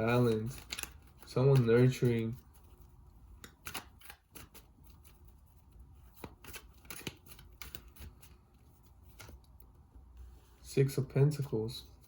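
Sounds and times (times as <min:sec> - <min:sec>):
cards being shuffled: 0:00.0 - 0:09.7.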